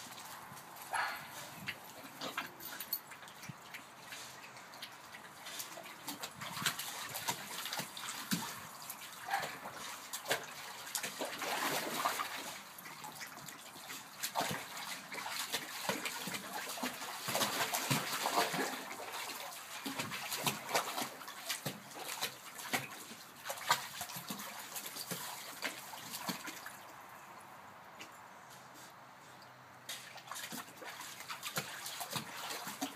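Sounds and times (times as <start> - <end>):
puppy splashing in water: 0.0 - 27.1, 29.8 - 32.9.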